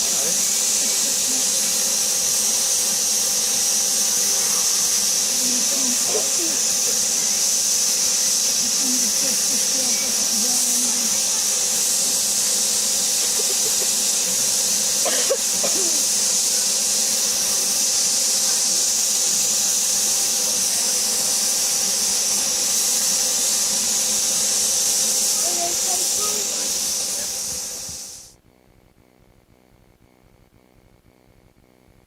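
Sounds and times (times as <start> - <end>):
steam hissing: 0.0 - 28.4.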